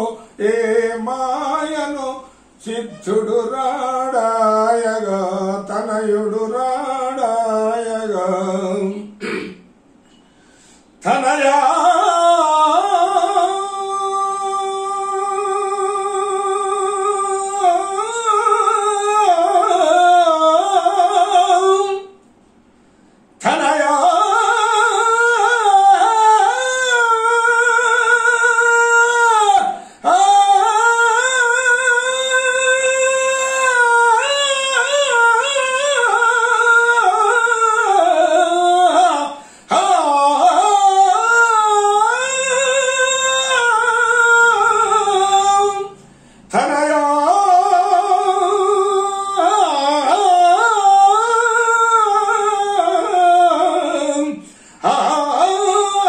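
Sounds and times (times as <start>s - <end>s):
man singing unaccompanied: 0.0s - 9.7s, 11.0s - 22.3s, 23.4s - 56.0s.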